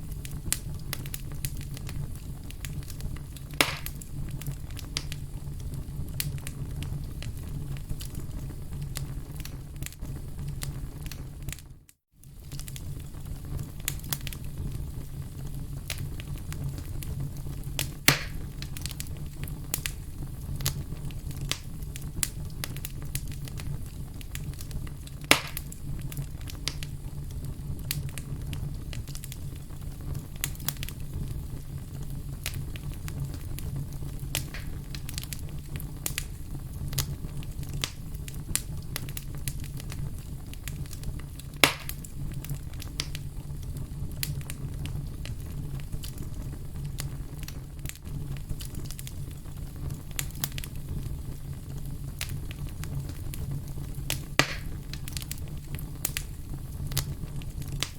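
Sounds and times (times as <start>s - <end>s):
fire pops: 0.0s - 57.9s
wood fire rumbling and crackling: 0.0s - 57.9s.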